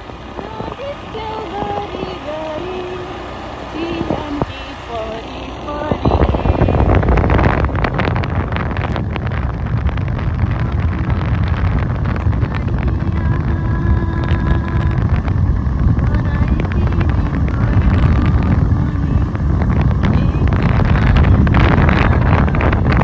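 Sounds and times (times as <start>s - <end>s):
road and engine rumble: 0.0s - 23.0s
wind buffeting microphone: 0.0s - 23.0s.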